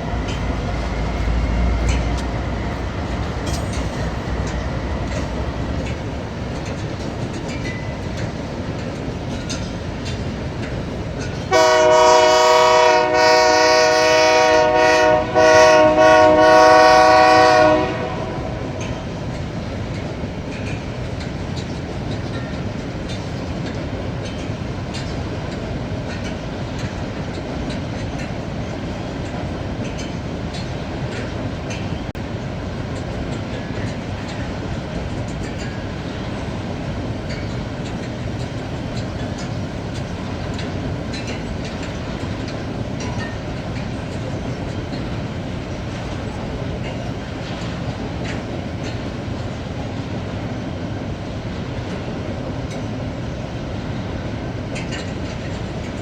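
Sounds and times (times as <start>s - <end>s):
train rolling along rails: 0.0s - 56.0s.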